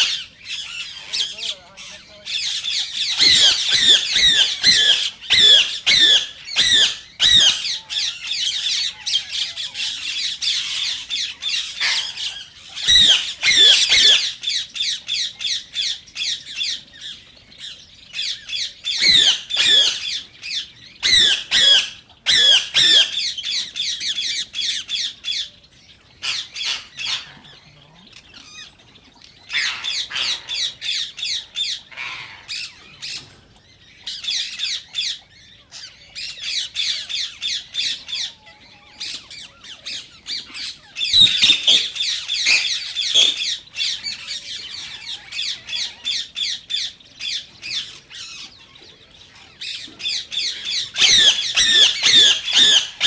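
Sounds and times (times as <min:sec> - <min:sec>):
parakeets squawking: 0:00.0 - 0:53.0.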